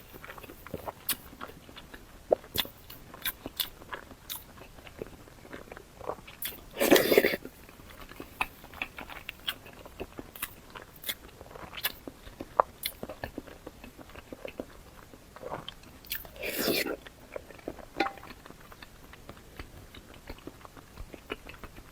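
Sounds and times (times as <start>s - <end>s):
person chewing food: 0.0s - 21.9s.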